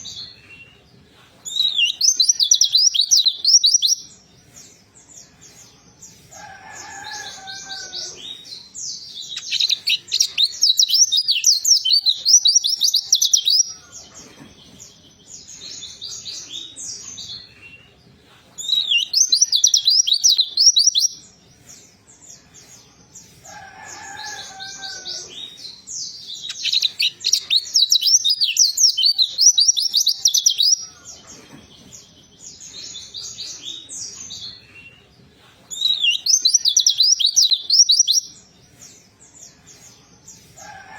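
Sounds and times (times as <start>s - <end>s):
quiet bird chirping: 0.0s - 24.1s, 24.8s - 40.9s
birds twittering trills: 0.0s - 40.9s.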